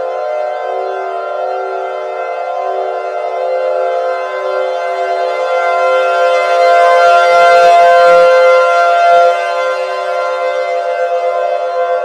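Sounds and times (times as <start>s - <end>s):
civil defense siren wailing: 0.0s - 12.0s.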